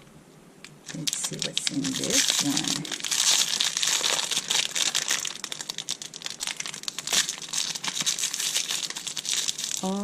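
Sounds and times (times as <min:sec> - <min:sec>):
plastic bag crinkling: 0:00.8 - 0:10.0.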